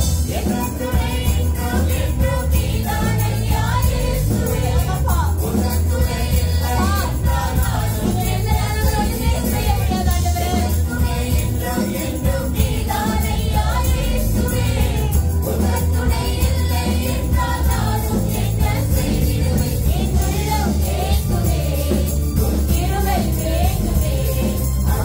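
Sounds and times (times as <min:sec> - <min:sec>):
tambourine jingling: 0:00.0 - 0:25.0
woman singing lead vocal: 0:00.0 - 0:25.0
worship band playing: 0:00.0 - 0:25.0.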